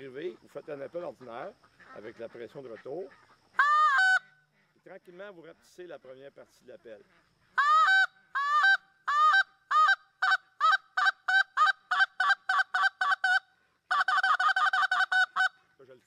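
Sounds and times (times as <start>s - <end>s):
goose call clucks: 0.0s - 4.8s, 6.8s - 15.7s.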